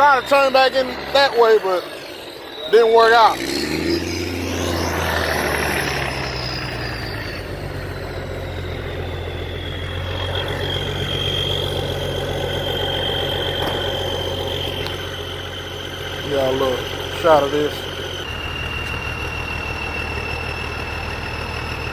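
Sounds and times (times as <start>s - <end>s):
diesel truck engine idling: 0.0s - 21.9s
high whine dropping in pitch: 0.0s - 21.9s.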